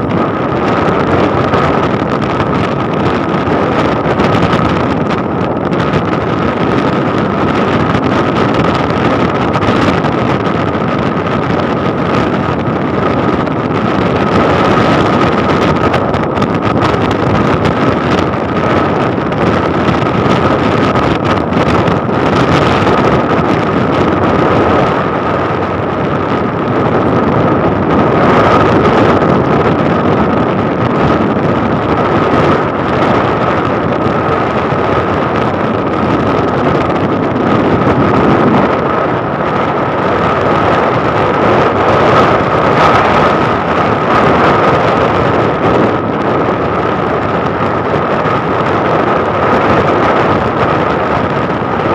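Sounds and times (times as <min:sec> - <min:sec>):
motorcycle engine and road noise: 0:00.0 - 0:51.9
steady high whine: 0:00.0 - 0:51.9
wind rushing over microphone: 0:00.0 - 0:51.9.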